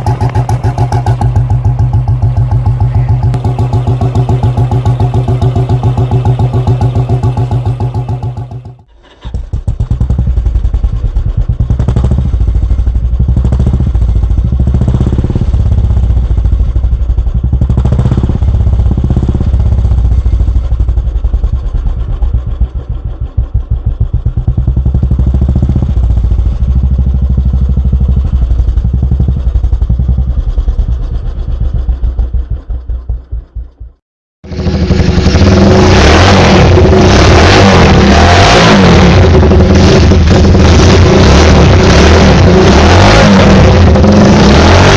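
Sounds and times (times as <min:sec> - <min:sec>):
harsh motorcycle exhaust: 0:00.0 - 0:44.9
motorcycle exhaust thumping: 0:00.0 - 0:44.9.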